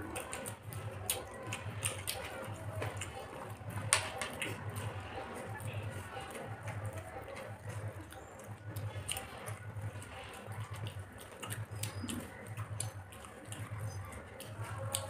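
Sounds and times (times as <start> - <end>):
chewing mouth sounds: 0.0 - 15.0
fingers squelching in rice and curry: 0.0 - 15.0
soft low beat: 0.0 - 15.0.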